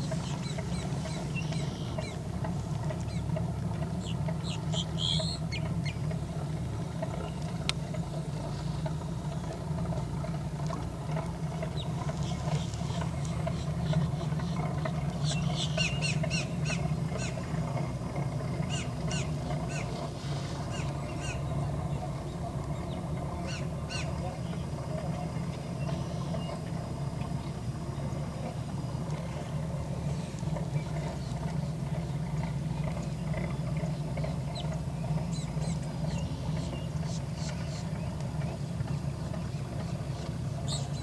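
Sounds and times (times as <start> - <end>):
birds chirping: 0.0 - 7.6, 11.4 - 17.6, 18.2 - 26.7, 29.0 - 41.0
steady low rumble: 0.0 - 41.0.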